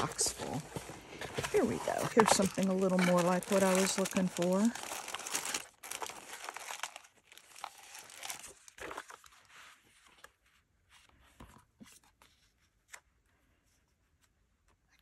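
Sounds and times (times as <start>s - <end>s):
paper rustling and crinkling: 0.0s - 13.2s.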